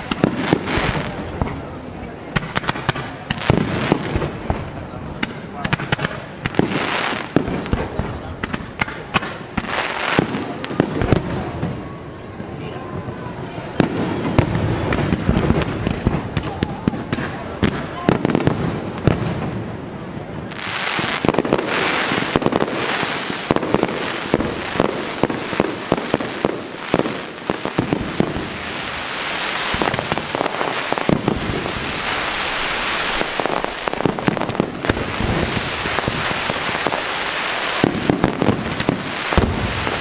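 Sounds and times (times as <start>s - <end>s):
fireworks bangs: 0.0s - 40.0s
fireworks crackle: 0.0s - 40.0s.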